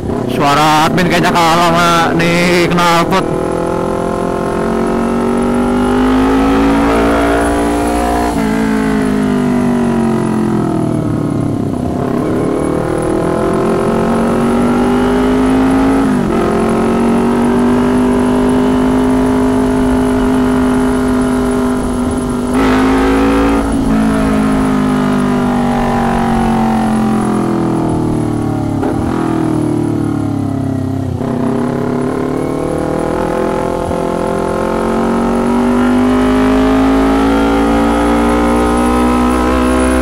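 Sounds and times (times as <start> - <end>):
loud motorcycle engine revving: 0.0 - 40.0.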